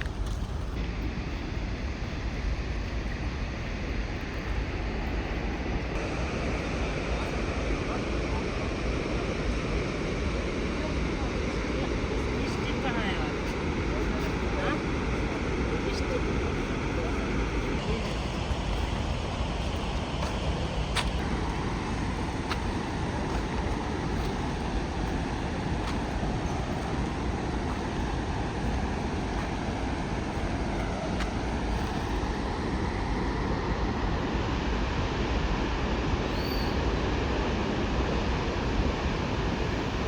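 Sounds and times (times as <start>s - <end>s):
waterfall roaring: 0.8s - 40.0s.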